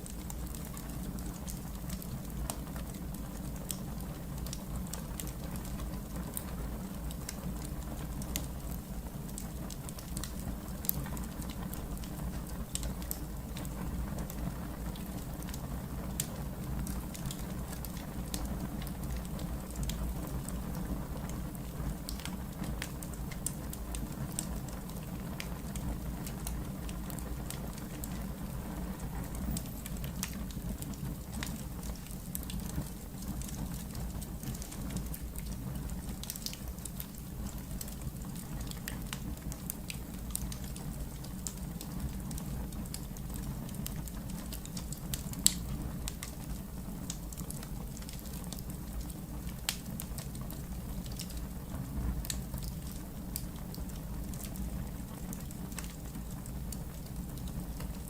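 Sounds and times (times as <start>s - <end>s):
fire crackling: 0.0s - 58.0s
fire low rumble: 0.0s - 58.0s.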